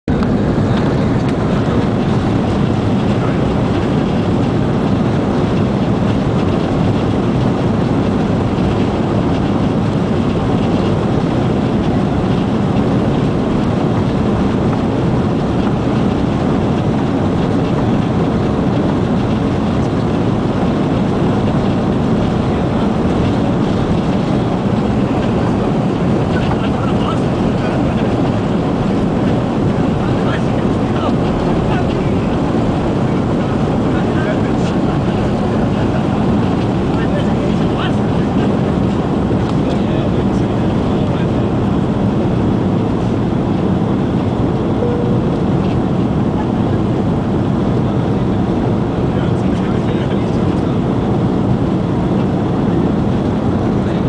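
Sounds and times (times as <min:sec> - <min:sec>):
jet engine noise in cabin: 0:00.0 - 0:54.0
wheel rumble: 0:00.0 - 0:54.0.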